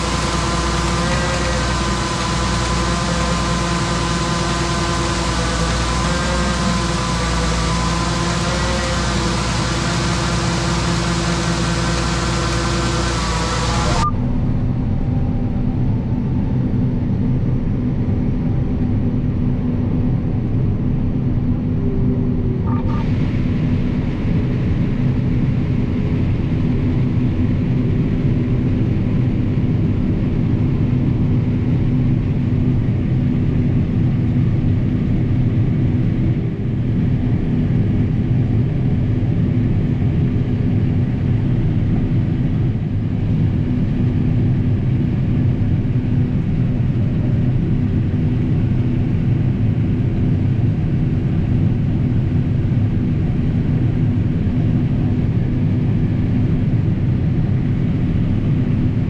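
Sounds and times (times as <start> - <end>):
combine harvester drone: 0.0 - 59.0.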